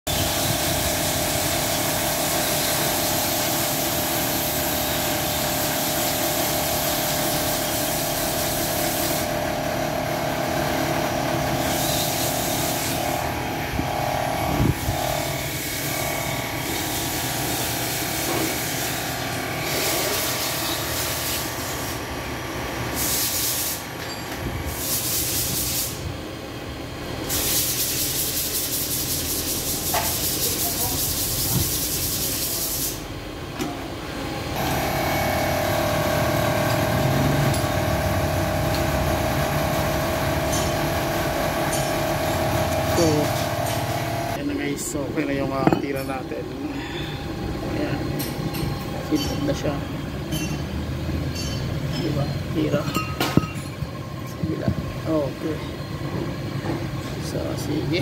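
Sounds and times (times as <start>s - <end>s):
lathe running with high hiss: 0.1s - 33.2s, 34.5s - 58.0s.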